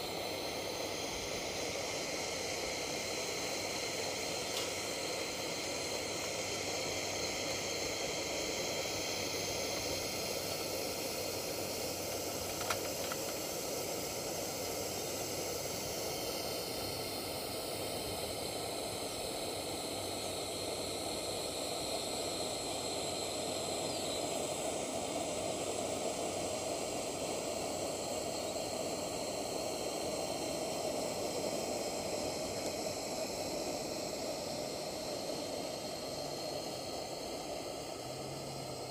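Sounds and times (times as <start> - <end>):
pressure lantern hissing: 0.0 - 38.9.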